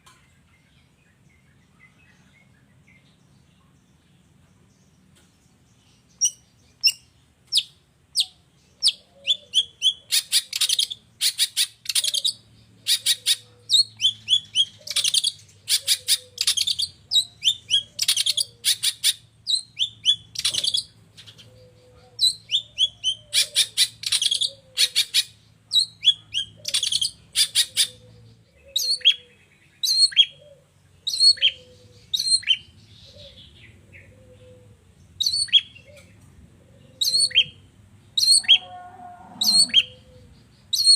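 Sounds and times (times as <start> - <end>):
bird singing: 0.0 - 40.9.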